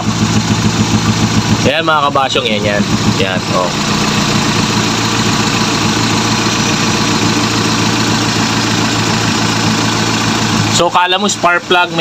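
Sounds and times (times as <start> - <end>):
petrol engine idling unevenly: 0.0 - 12.0.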